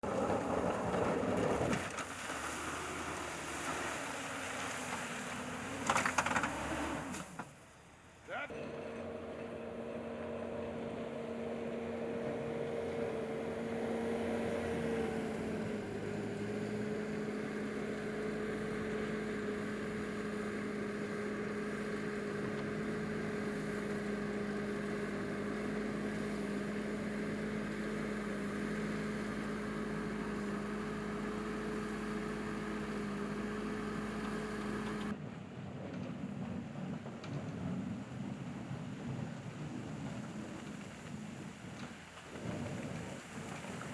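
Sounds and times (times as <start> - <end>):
engine humming: 0.0 - 7.7, 8.3 - 43.9.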